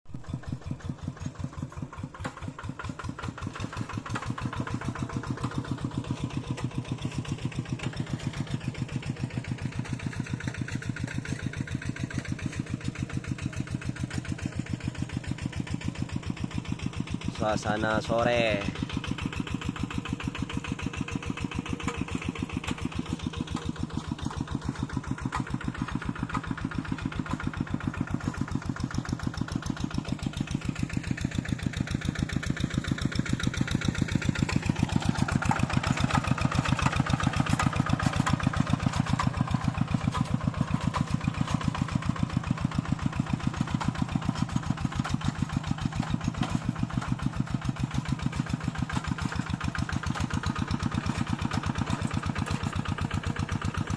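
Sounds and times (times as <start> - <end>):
tractor engine running: 0.1 - 53.9.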